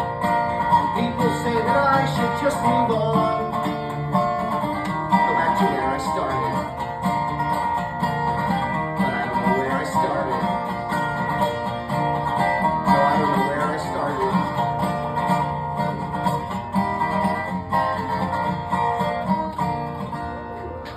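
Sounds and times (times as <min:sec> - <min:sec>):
instrumental music: 0:00.0 - 0:20.9.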